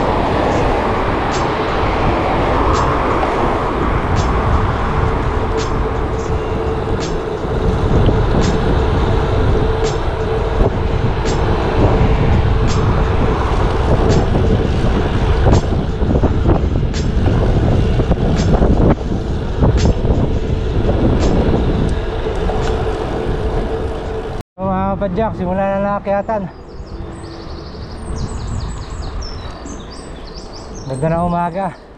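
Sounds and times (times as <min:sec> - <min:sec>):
bicycle road noise: 0:00.0 - 0:31.9
wind buffeting microphone: 0:00.0 - 0:31.9.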